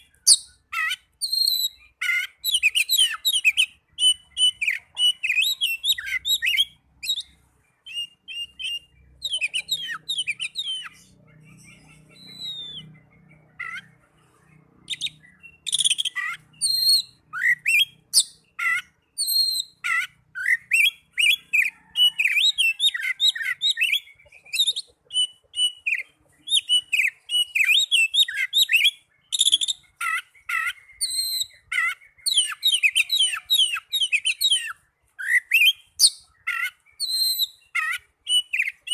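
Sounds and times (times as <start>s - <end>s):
bird singing rapid chirps and whistles: 0.0s - 38.9s.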